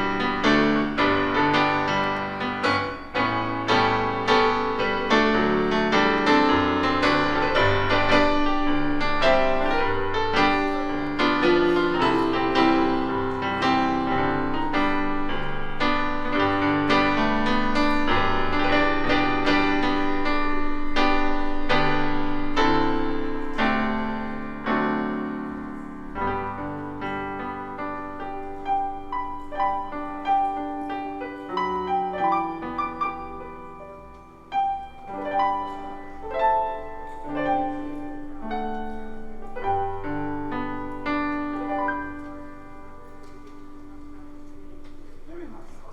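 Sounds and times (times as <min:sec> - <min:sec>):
piano music: 0:00.0 - 0:45.9.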